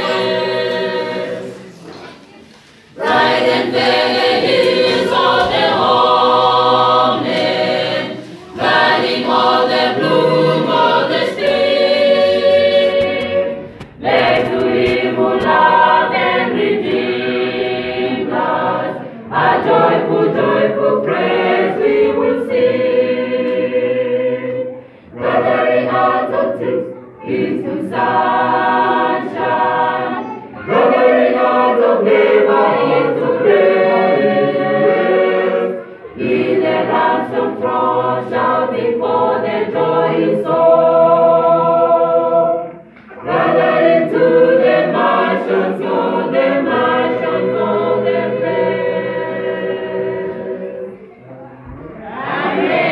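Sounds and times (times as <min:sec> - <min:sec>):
choir singing a hymn: 0:00.0 - 0:52.9.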